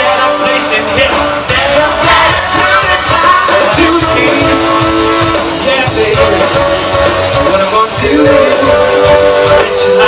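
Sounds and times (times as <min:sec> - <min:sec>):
live band music: 0:00.0 - 0:10.0.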